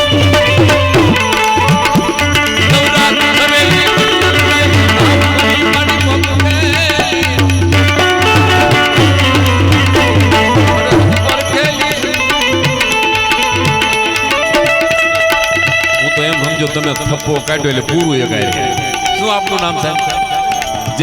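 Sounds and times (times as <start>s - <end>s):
melodic instruments playing: 0.0s - 21.0s
tabla beat: 0.0s - 21.0s.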